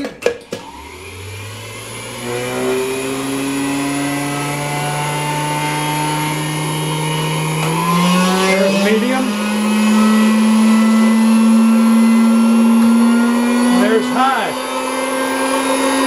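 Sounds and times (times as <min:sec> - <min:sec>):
milkshake mixer motor hum: 0:00.5 - 0:16.0.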